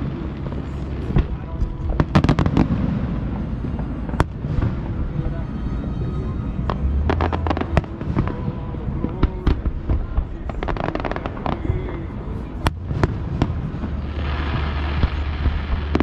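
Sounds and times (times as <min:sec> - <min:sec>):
fireworks bangs and crackling: 0:00.0 - 0:16.0
low rumble: 0:00.0 - 0:16.0.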